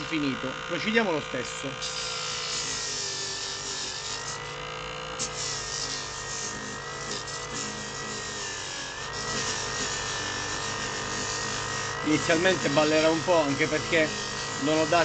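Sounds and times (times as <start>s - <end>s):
disc sander whining: 0.0s - 15.0s.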